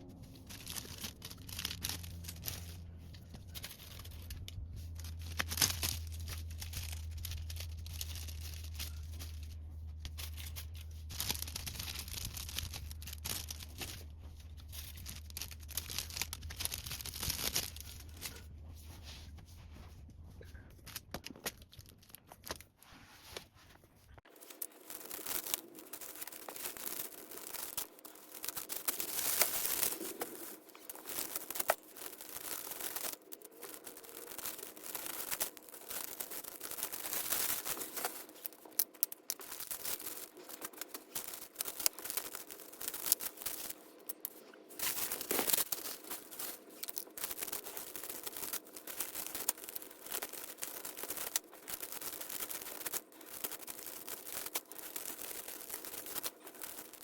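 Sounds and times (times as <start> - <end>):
scratchy rubbing and rustling: 0.1 - 21.1, 22.4 - 57.0.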